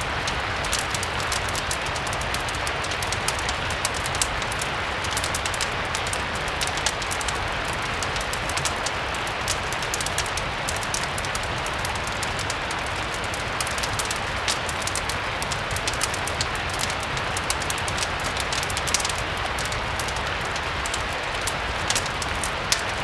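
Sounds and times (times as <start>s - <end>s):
fireplace crackling: 0.0s - 23.0s
rain hiss: 0.0s - 23.0s.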